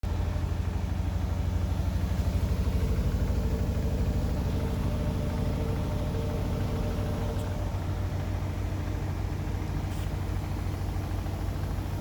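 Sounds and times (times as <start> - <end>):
faint motor whine: 0.1 - 12.0.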